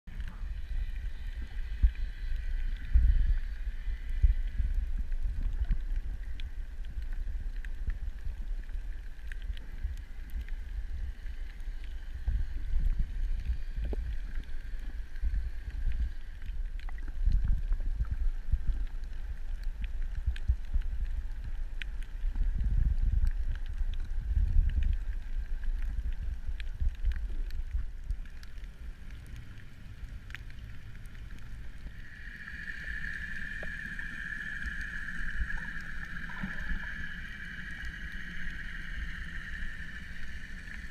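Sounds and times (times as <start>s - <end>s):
underwater rumble: 0.0s - 40.9s
faint high hum: 0.1s - 24.2s, 25.0s - 40.9s.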